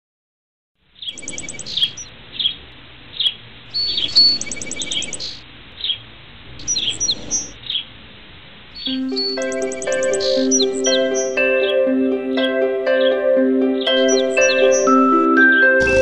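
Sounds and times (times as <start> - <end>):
songbirds chirping and trilling: 0.9 - 8.0, 8.6 - 16.0.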